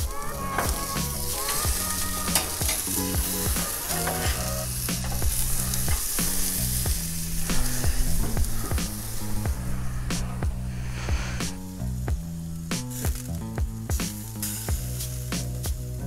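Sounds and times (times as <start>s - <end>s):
background music: 0.0s - 16.0s
meat sizzling on a grill: 0.0s - 16.0s.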